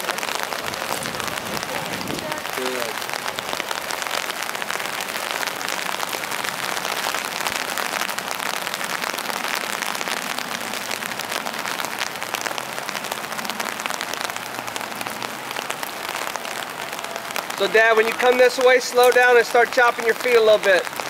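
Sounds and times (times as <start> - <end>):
rain pattering on ground: 0.0 - 21.0.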